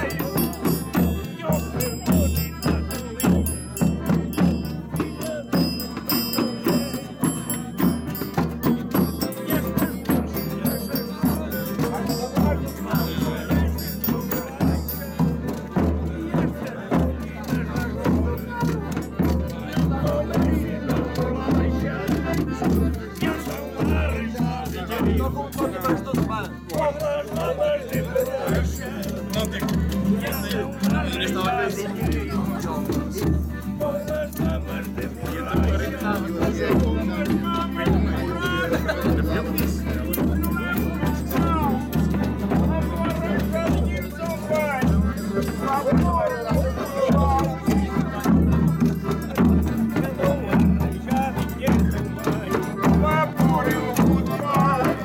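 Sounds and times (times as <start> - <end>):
deep drum beat: 0.0 - 55.0
folk music: 0.0 - 55.0
rattling percussion: 0.0 - 55.0
voices singing: 0.0 - 55.0.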